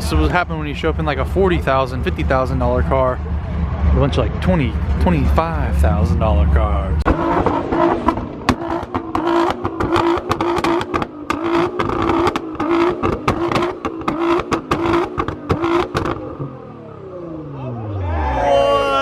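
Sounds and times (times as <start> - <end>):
exhaust pops crackling: 0.0 - 16.7
car engine revving: 0.0 - 19.0.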